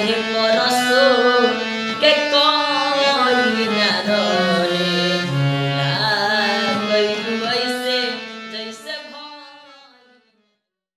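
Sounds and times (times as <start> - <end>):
harmonium: 0.0 - 10.5.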